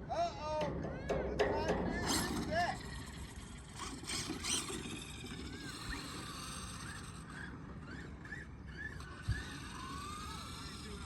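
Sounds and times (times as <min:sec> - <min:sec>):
electric motor whining: 0:02.1 - 0:11.0.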